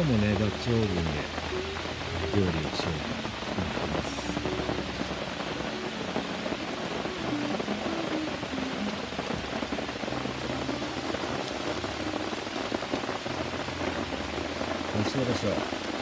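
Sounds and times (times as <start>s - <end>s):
rain pattering on tarp: 0.0s - 16.0s.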